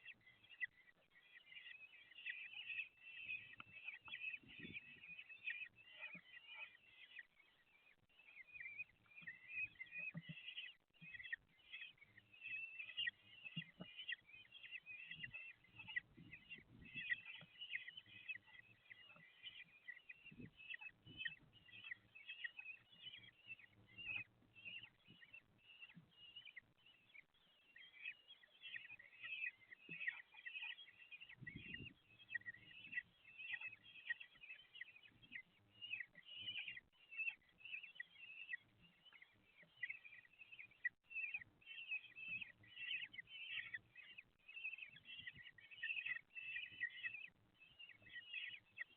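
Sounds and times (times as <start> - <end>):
chicks chittering begging calls: 0.0 - 48.9.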